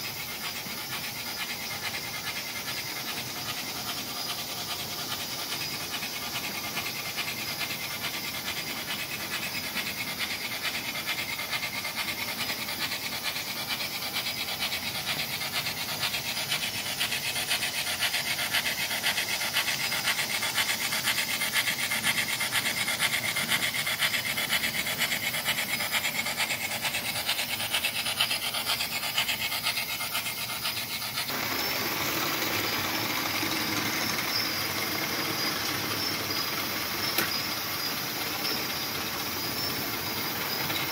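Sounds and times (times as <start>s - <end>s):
model steam locomotive chuffing: 0.0s - 40.9s
metal wheels rolling on track: 1.8s - 40.9s.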